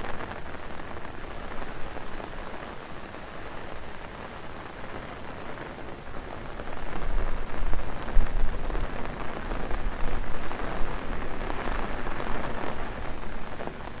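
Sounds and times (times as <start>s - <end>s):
heavy rain on an umbrella: 0.0s - 14.0s.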